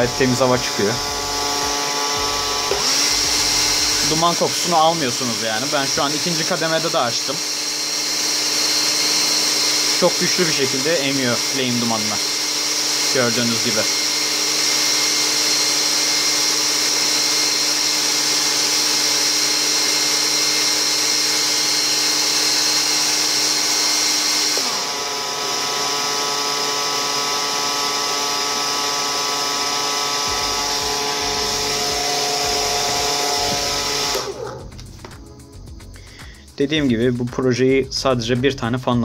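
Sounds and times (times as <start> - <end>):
fan motors whining: 0.0 - 16.5, 18.6 - 35.0.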